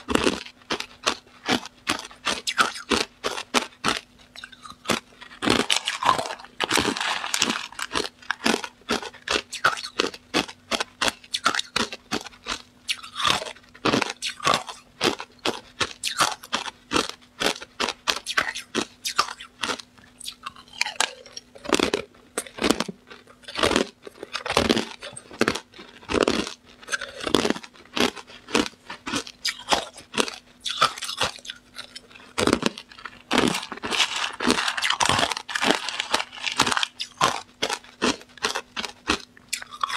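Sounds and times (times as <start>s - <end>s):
faint steady hum: 0.0s - 39.9s
ice cubes crunching while chewed: 0.0s - 39.9s.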